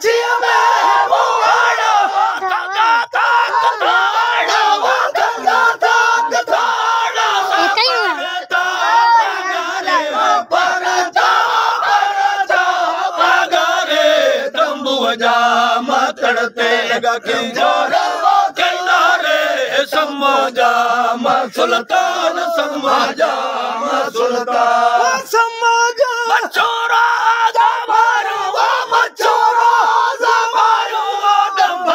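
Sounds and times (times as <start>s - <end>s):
men singing in unison: 0.0s - 31.9s.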